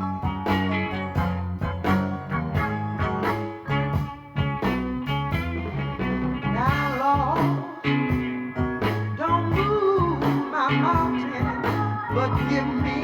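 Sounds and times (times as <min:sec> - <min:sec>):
plucked guitar: 0:00.0 - 0:13.0
repeating bass line: 0:00.0 - 0:13.0.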